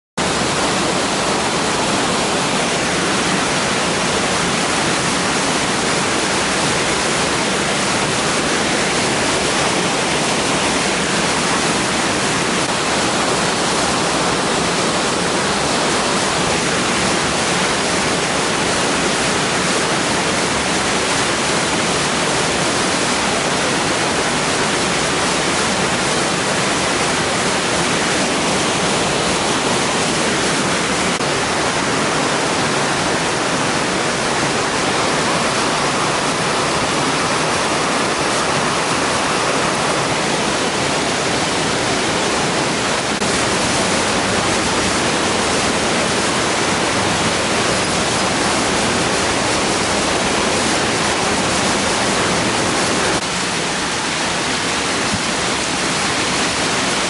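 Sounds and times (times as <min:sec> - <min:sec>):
waterfall rushing: 0:00.2 - 0:57.0.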